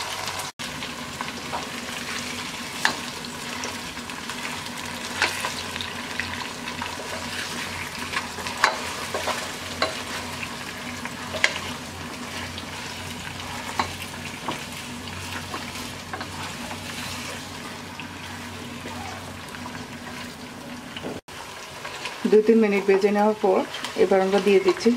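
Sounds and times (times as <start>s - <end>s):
chicken sizzling in oil: 0.0s - 24.9s.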